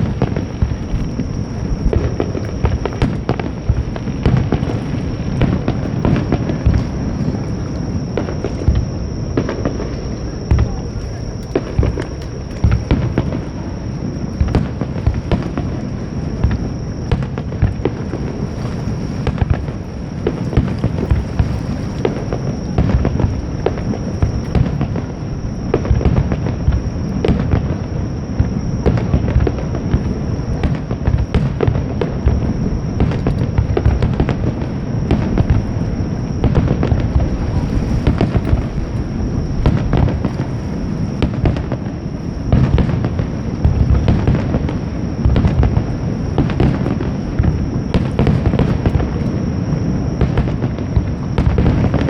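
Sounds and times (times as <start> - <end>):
low rumble of booms: 0.0 - 52.0.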